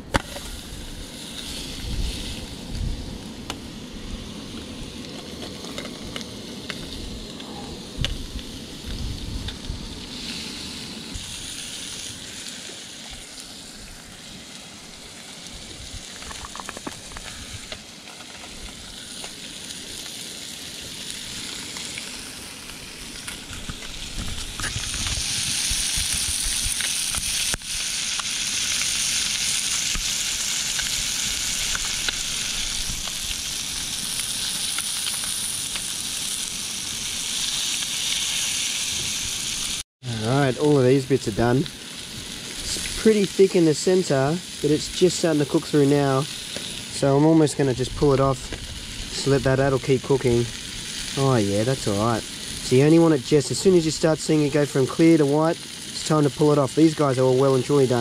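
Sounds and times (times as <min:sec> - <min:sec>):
fish sizzling in a frying pan: 0:00.0 - 0:58.0.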